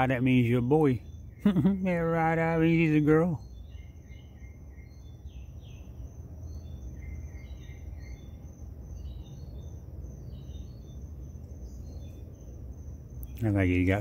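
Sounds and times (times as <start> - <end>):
crickets chirping: 0.0 - 14.0
low steady rumble: 0.0 - 14.0.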